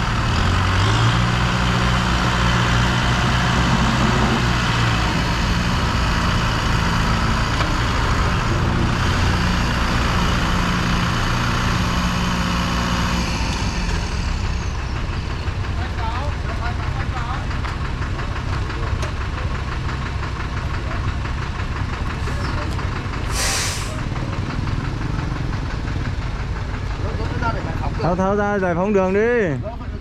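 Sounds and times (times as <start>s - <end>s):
tractor diesel engine working: 0.0s - 30.0s.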